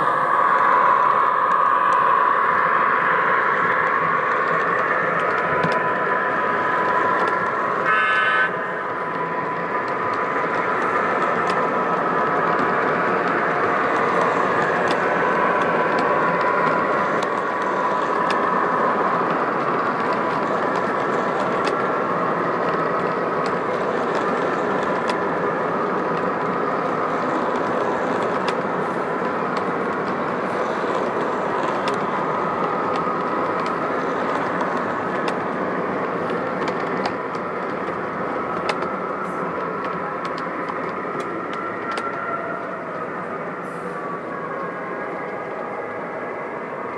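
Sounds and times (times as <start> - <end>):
model train rumbling: 0.0 - 45.5
wheels clicking over rail joints: 3.8 - 8.0, 8.8 - 43.3.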